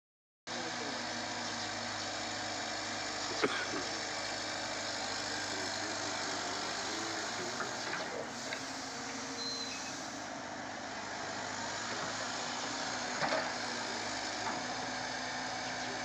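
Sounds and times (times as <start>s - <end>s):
excavator diesel engine running: 0.5s - 16.0s
heavy machinery noise: 0.6s - 16.0s.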